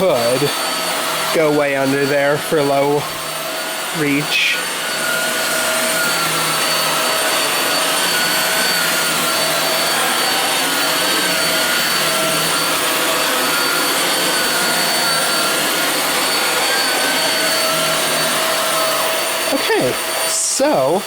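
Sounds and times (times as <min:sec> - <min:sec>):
vacuum cleaner running on carpet: 0:00.0 - 0:21.0.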